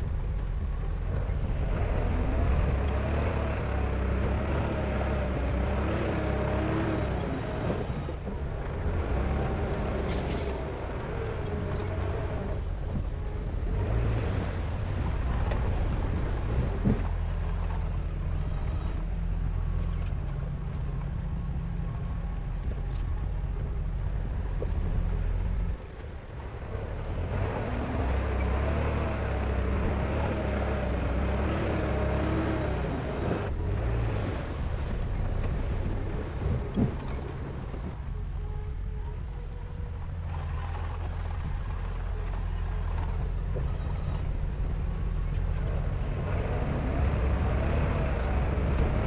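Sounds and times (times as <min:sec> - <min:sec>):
diesel machinery engine: 0:00.0 - 0:49.0.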